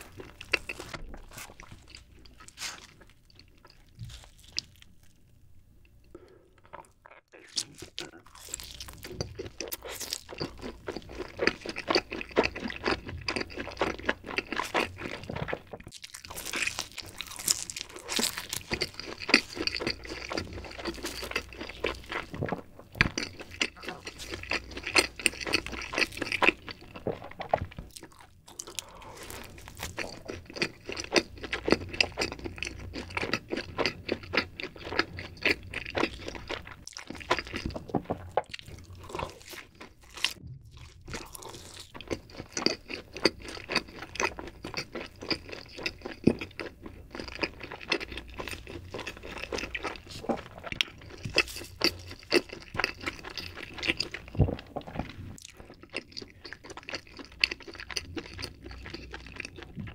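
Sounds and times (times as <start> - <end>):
chewing pizza: 0.0 - 5.1, 6.1 - 59.9.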